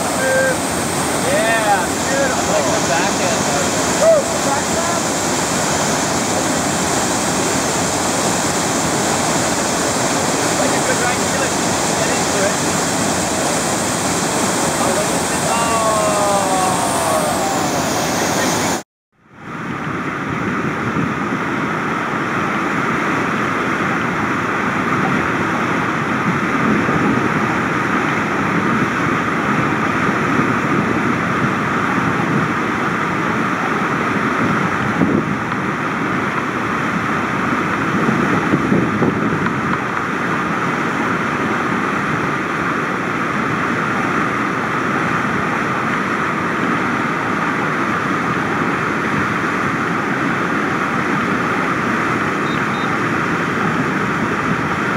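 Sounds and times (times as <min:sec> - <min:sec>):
river rapid rushing: 0:00.0 - 0:54.9.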